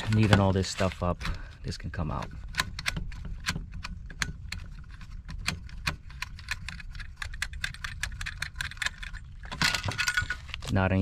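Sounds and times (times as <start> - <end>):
metallic clicking and rattling wires: 0.0 - 11.0.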